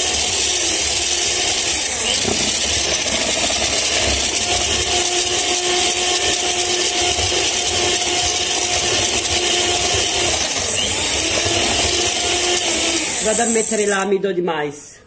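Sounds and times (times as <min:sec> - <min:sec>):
electric hand mixer whirring: 0:00.0 - 0:14.1.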